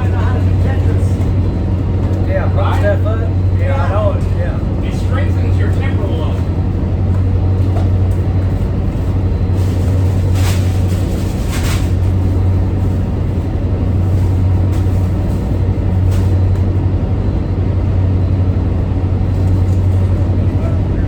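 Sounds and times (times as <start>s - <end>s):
boat machinery drone: 0.0s - 21.0s.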